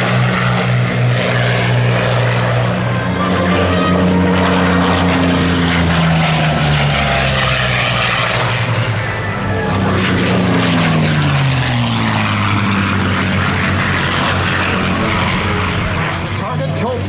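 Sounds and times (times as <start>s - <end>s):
propeller plane flying past: 0.0s - 17.0s.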